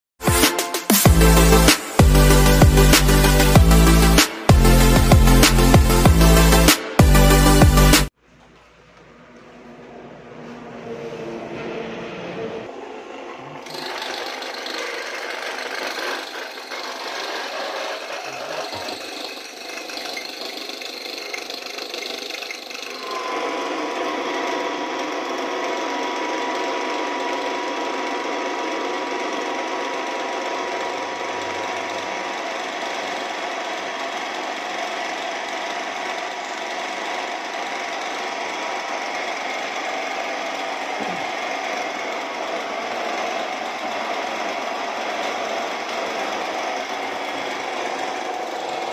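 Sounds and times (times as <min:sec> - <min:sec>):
electric grain mill grinding: 0:00.2 - 0:08.1, 0:12.7 - 0:48.9
machine whine: 0:00.2 - 0:48.9.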